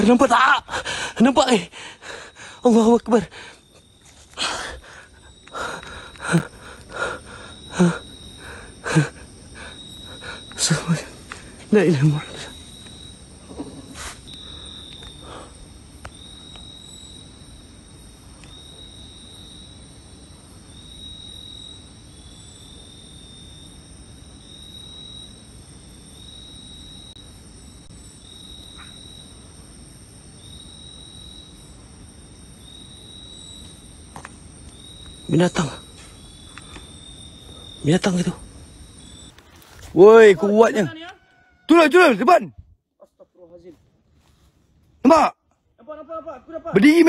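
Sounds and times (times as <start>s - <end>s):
insect calling long note: 0.0s - 47.0s
night insects trilling: 0.0s - 47.0s.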